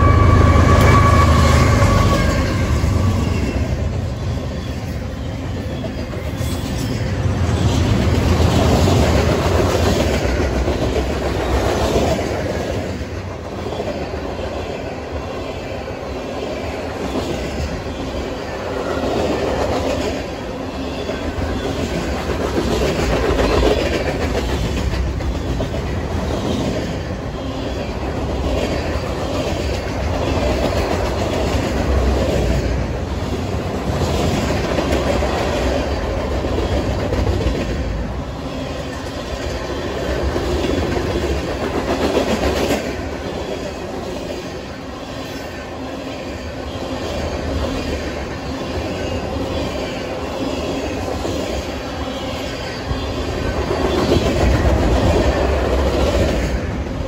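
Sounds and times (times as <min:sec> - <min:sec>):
train wheels rolling on rail: 0:00.0 - 0:57.0
wheels clickety-clack over rail joints: 0:00.0 - 0:57.0.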